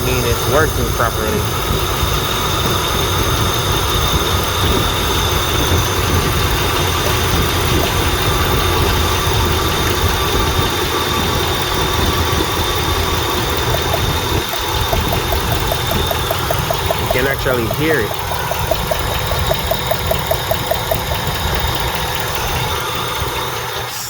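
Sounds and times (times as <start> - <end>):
car engine idling: 0.0 - 24.0
rapid even ticking: 0.0 - 24.0.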